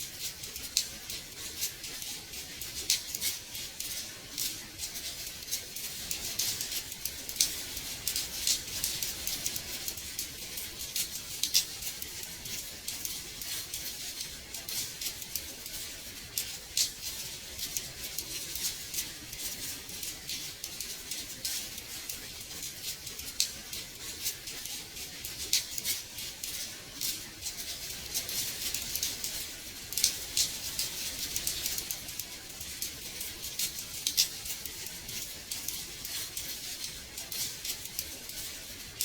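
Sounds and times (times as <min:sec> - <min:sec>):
rain pattering on a window: 0:00.0 - 0:39.0.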